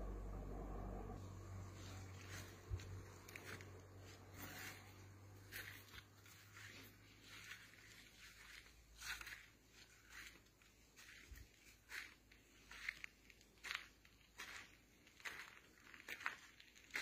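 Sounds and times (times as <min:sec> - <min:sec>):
footsteps on gravel: 0:01.6 - 0:17.0.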